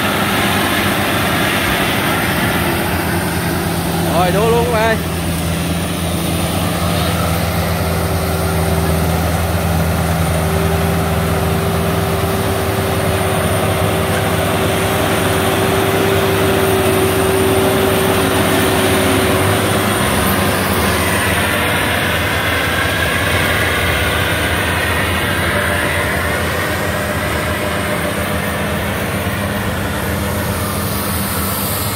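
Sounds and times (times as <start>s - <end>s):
harvester engine hum: 0.0s - 31.9s.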